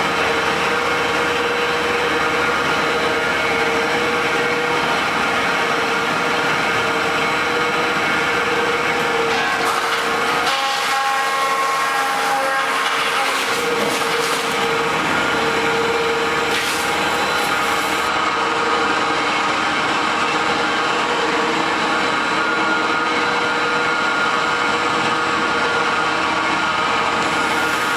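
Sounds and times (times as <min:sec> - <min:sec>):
sawdust machine whining: 0:00.0 - 0:27.9.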